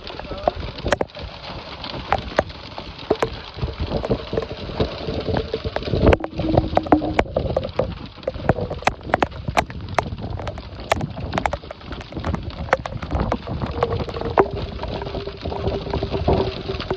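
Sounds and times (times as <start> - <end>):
hailstones knocking on hard surface: 0.0 - 16.9
heavy rain downpour: 0.0 - 16.9.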